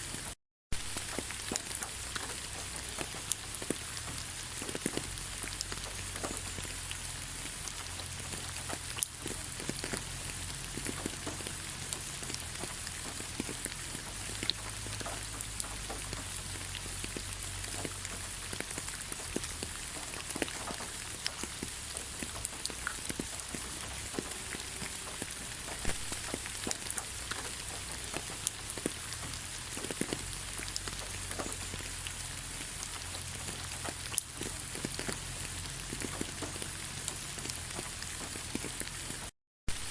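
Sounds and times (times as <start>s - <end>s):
light rain falling: 0.0s - 39.9s
rain drops pattering: 0.0s - 39.9s.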